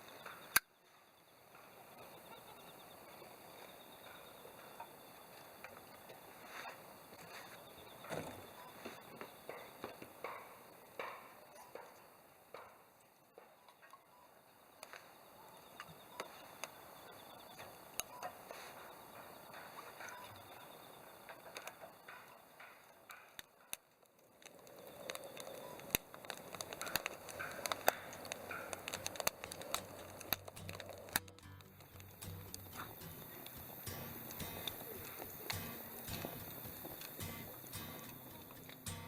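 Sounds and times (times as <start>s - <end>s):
campfire crackling: 1.4s - 12.8s, 14.6s - 39.0s.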